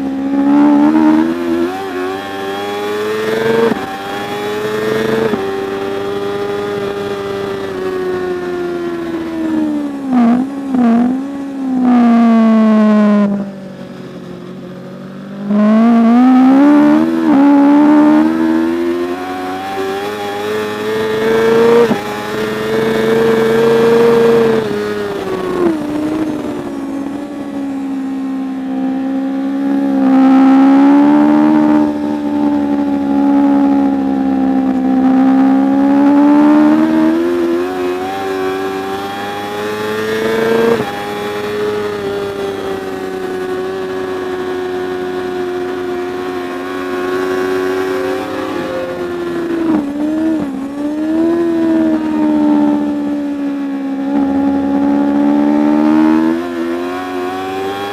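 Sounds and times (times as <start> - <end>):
superbike engine revving: 0.0 - 57.9.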